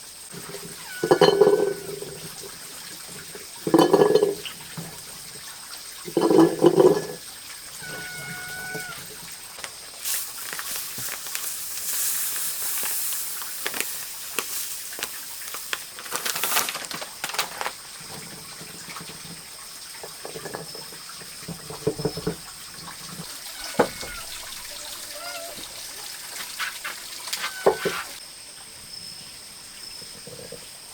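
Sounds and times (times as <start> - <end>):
water running and splashing: 0.0 - 28.2.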